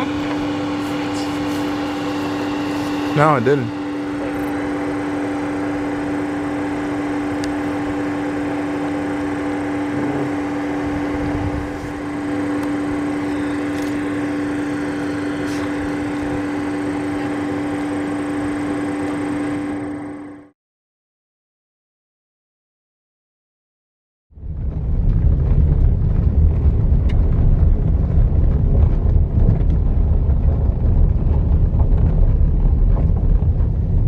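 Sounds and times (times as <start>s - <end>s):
steady mechanical hum: 0.0s - 20.5s, 24.4s - 34.0s.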